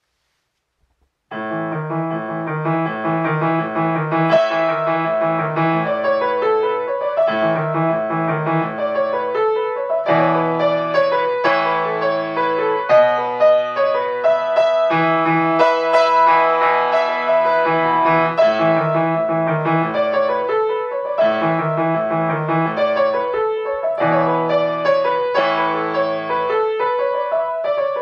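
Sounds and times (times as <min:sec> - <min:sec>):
grand piano piece: 0:01.3 - 0:28.0.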